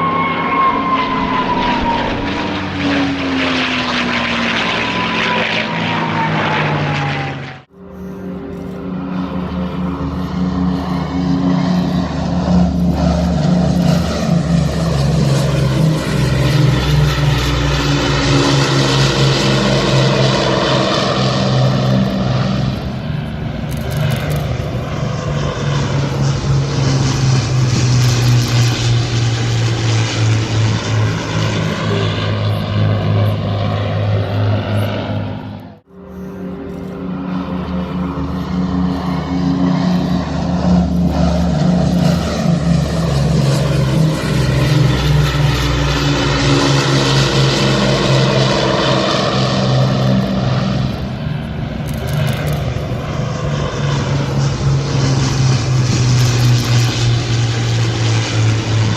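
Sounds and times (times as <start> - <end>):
propeller aircraft flying past: 0.0 - 58.9.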